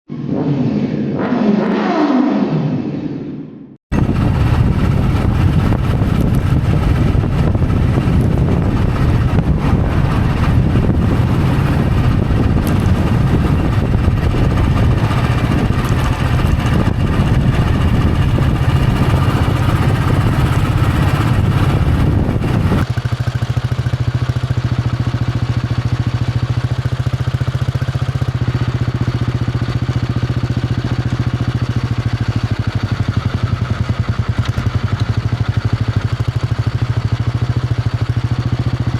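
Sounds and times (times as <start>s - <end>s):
motorcycle engine thumping: 3.9s - 38.9s.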